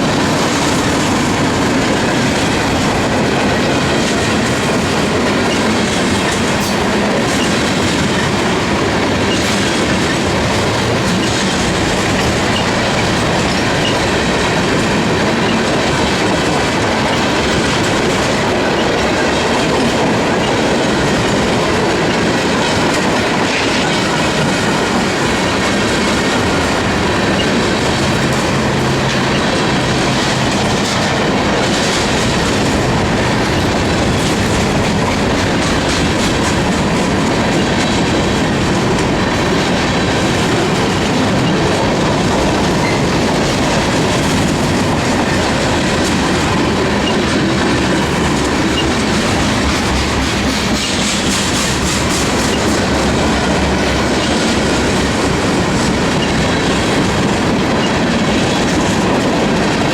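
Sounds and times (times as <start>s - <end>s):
freight train cars rolling: 0.0s - 59.9s
wheels clacking over rail joints: 0.0s - 59.9s.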